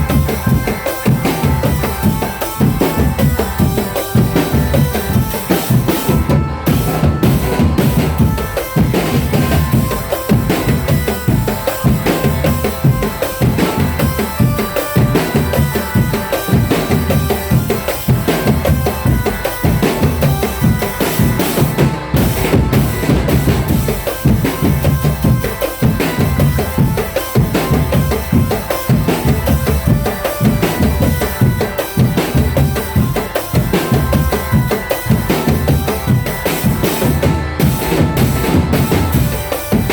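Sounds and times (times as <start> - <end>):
bass drums and snare drums: 0.0 - 39.9
sustained melodic line: 0.0 - 39.9.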